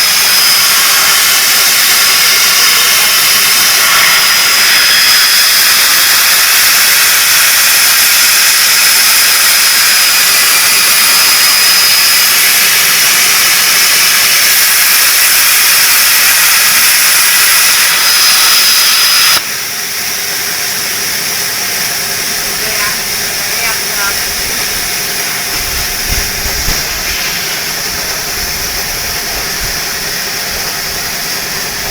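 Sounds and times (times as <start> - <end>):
plasma cutter hissing: 0.0 - 31.9.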